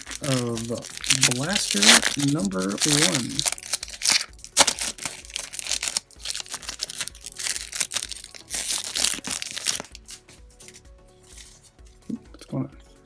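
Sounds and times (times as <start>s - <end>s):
plastic wrapper tearing and crinkling: 0.0s - 11.6s
faint background music with beat: 0.0s - 13.0s.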